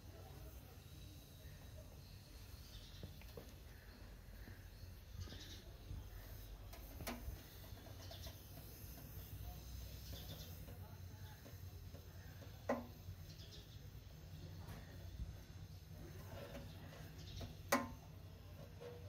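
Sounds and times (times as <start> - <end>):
steady low hum: 0.0 - 19.0
faint bird chirps: 0.1 - 19.0.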